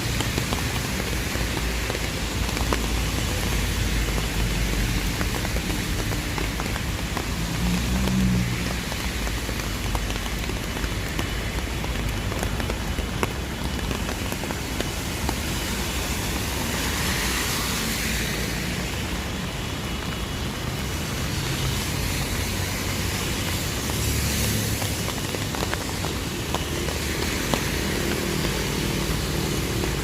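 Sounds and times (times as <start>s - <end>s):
raindrop ticks: 0.0s - 30.0s
steady rain falling: 0.0s - 30.0s.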